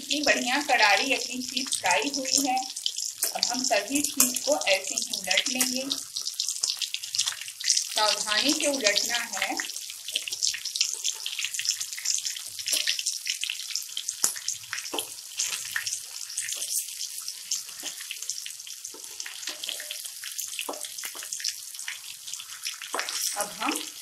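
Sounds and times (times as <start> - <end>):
fish frying in oil: 0.0 - 24.0.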